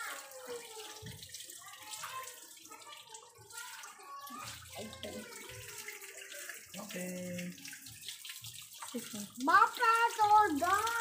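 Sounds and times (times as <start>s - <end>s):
water running from a hose: 0.0s - 11.0s
water splashing: 0.0s - 11.0s.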